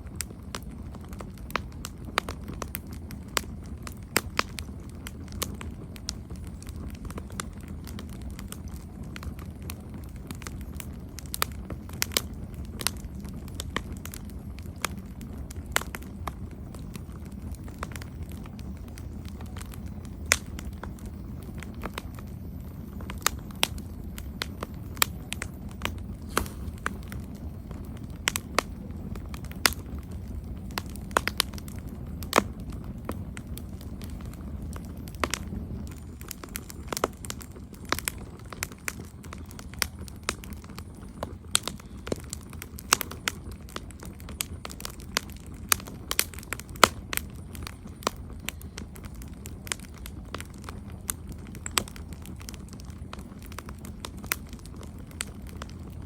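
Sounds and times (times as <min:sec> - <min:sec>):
burning wood popping and snapping: 0:00.0 - 0:56.0
low rumble of flames: 0:00.0 - 0:56.0.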